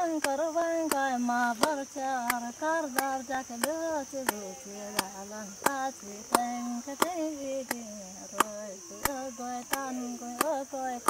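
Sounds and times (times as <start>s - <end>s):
person singing slow melody: 0.0s - 11.0s.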